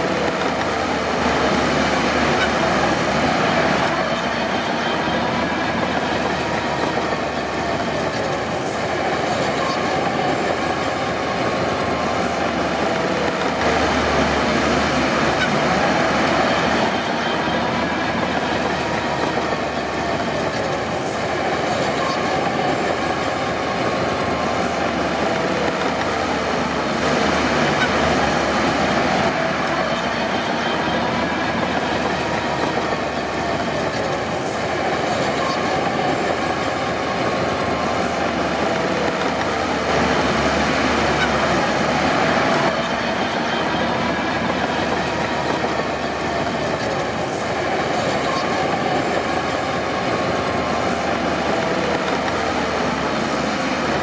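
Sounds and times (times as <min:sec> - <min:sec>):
bulldozer diesel engine: 0:00.0 - 0:54.0
steel tracks clanking: 0:00.0 - 0:54.0.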